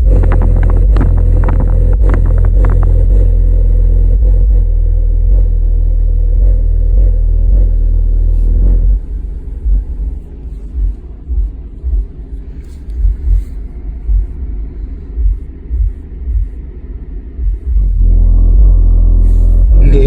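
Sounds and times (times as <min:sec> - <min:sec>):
subwoofer playing deep bass: 0:00.0 - 0:20.0.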